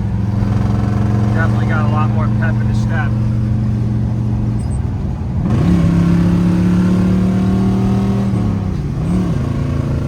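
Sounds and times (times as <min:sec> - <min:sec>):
car engine revving: 0:00.0 - 0:04.6, 0:05.4 - 0:10.0.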